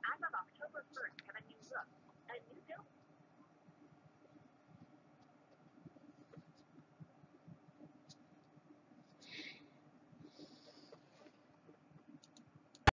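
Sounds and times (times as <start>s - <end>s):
low crackle: 0.1s - 13.0s.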